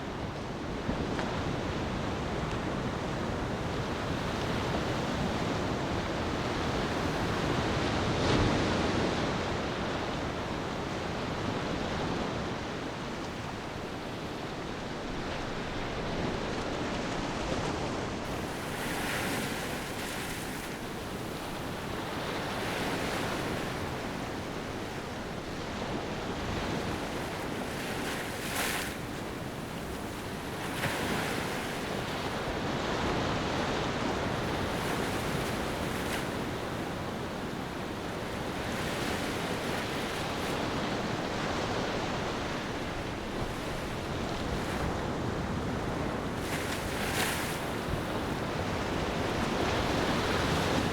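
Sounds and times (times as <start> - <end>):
ocean surf breaking on beach: 0.0 - 50.9.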